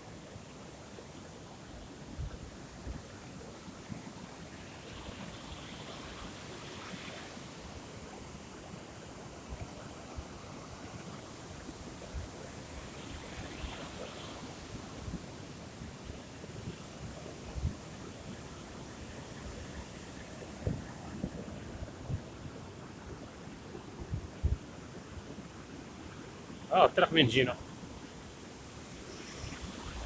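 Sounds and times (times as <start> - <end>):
surf washing against shore: 4.6 - 30.0.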